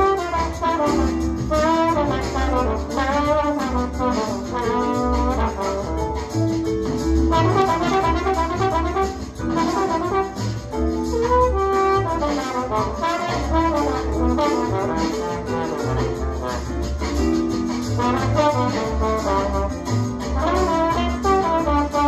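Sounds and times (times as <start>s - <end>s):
jazz horn section: 0.0s - 22.0s
walking bass: 0.0s - 22.0s.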